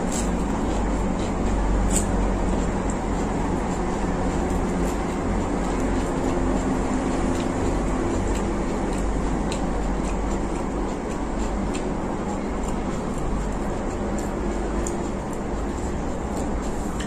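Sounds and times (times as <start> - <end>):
low background rumble: 0.0 - 17.0
person eating with fingers: 0.0 - 17.0.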